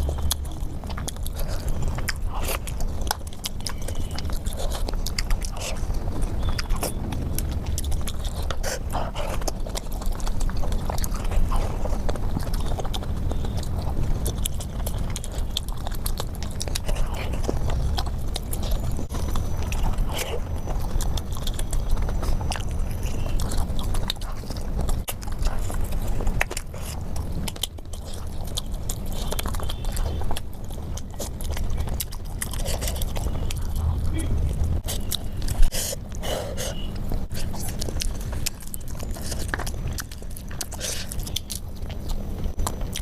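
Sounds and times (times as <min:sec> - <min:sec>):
person chewing food: 0:00.0 - 0:43.0.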